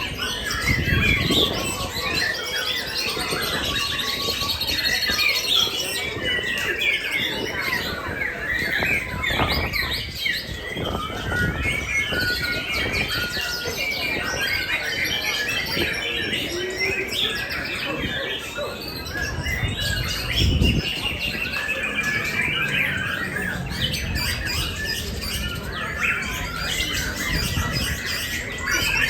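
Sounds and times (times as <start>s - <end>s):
songbirds chorus of trills: 0.0s - 29.0s.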